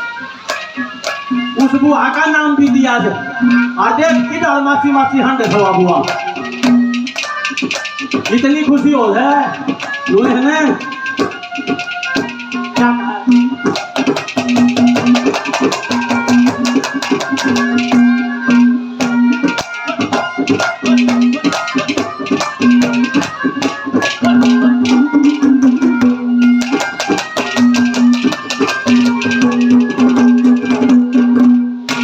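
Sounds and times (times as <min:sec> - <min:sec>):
fast rattling percussion: 0:00.0 - 0:32.0
melodic instrument holding low note: 0:00.0 - 0:32.0.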